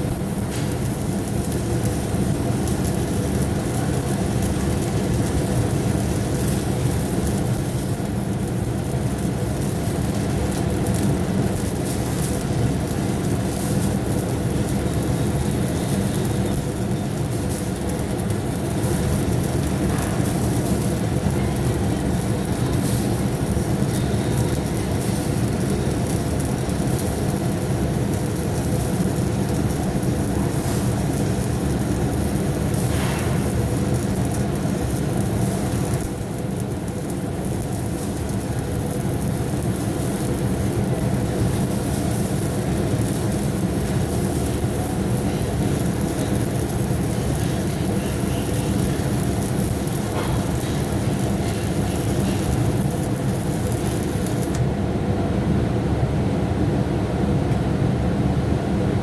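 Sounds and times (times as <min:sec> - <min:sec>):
welding arc crackling: 0:00.0 - 0:54.8.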